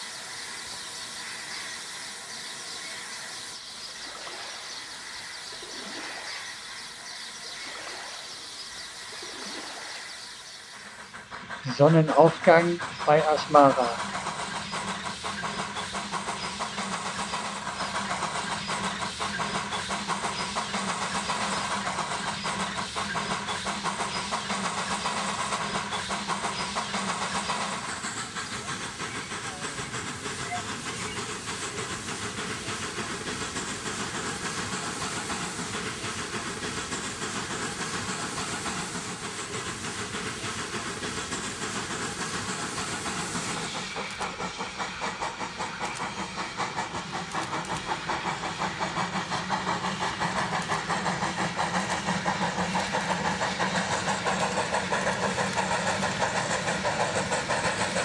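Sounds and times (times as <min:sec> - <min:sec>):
hissing steam: 0:00.0 - 0:58.0
steam locomotive exhaust beats: 0:00.0 - 0:58.0.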